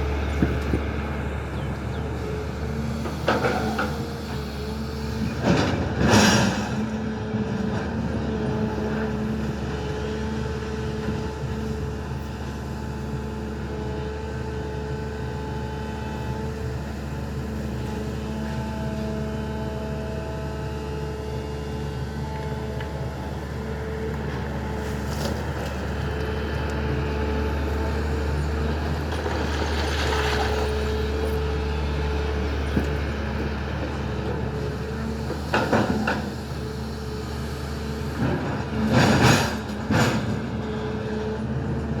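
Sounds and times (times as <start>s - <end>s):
diesel engine rumbling: 0.0s - 42.0s.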